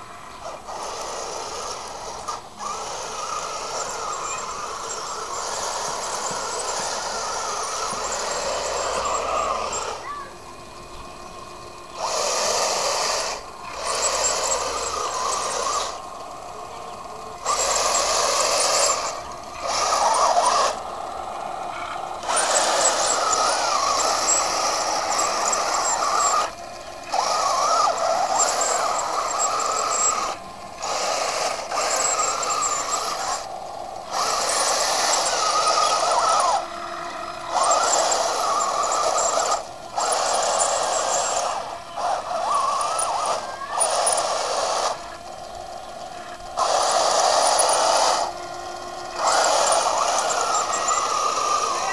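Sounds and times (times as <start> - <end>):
toy tank motor whirring: 0.0 - 51.9.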